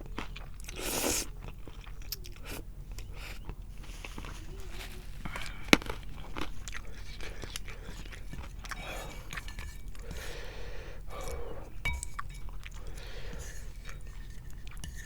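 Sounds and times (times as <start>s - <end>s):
wet chewing: 0.0s - 15.0s.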